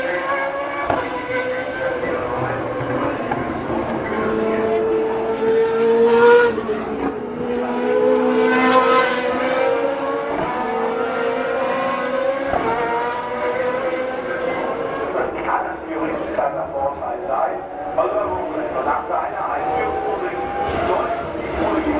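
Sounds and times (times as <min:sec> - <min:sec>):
race car engines passing: 0:00.0 - 0:21.9.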